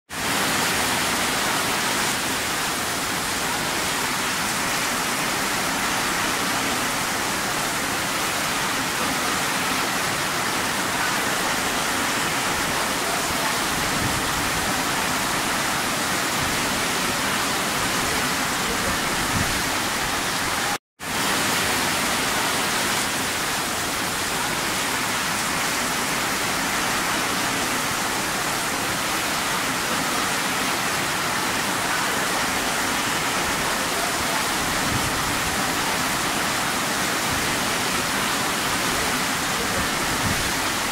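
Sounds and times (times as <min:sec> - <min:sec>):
heavy rain on pavement: 0:00.1 - 0:40.9.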